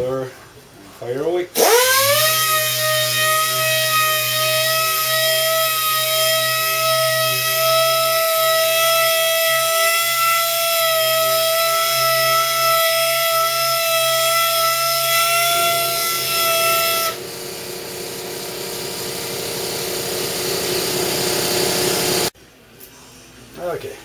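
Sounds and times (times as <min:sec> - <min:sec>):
pneumatic sander whining: 0:01.6 - 0:22.3.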